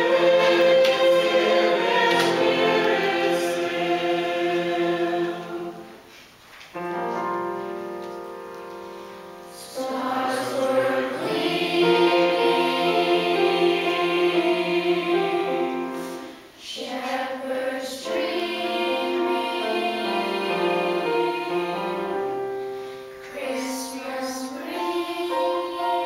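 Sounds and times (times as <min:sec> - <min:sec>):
choir singing slow song: 0:00.0 - 0:06.2, 0:09.4 - 0:26.0.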